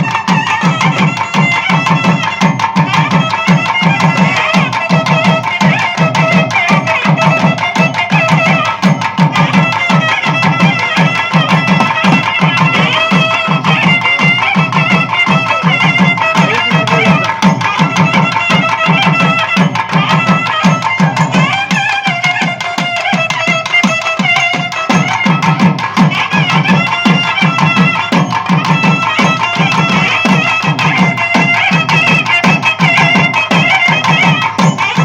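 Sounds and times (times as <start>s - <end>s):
barrel drum beats: 0.0s - 35.0s
reedy wind instrument melody: 0.0s - 35.0s.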